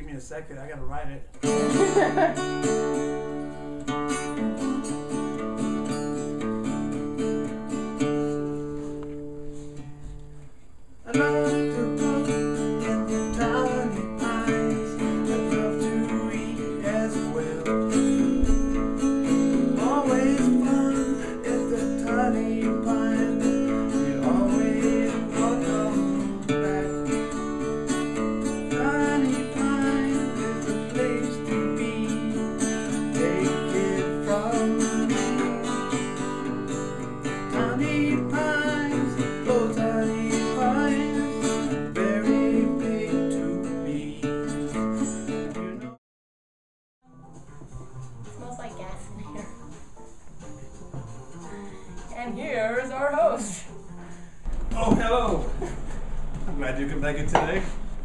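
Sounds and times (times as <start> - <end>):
acoustic guitar strummed chords: 1.3 - 46.0, 47.0 - 58.0.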